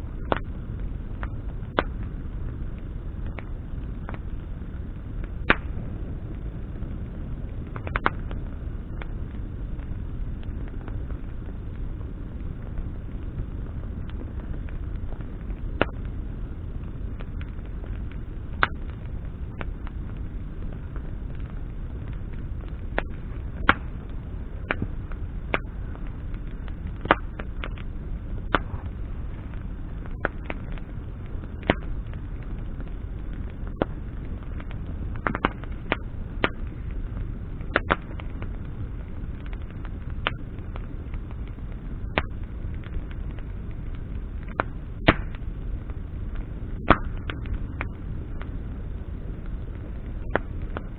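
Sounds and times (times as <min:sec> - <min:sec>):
bonfire crackling and popping: 0:00.0 - 0:50.9
low rush of flame: 0:00.0 - 0:50.9.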